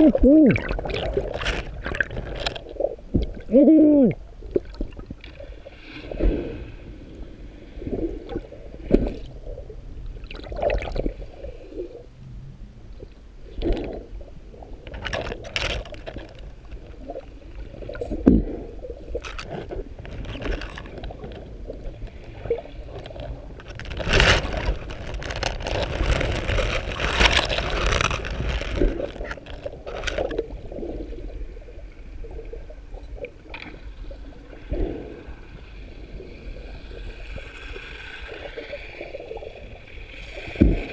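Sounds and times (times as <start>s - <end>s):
water sloshing underwater: 0.0s - 40.9s.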